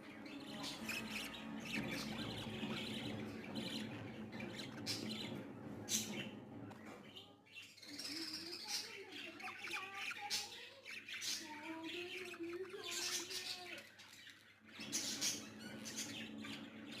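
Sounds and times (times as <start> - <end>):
baby budgies chirping and squawking: 0.0 - 17.0.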